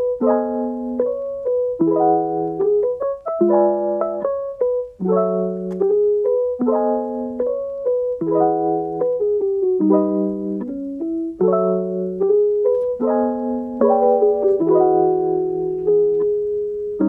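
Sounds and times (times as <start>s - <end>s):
light piano tune: 0.0s - 17.0s.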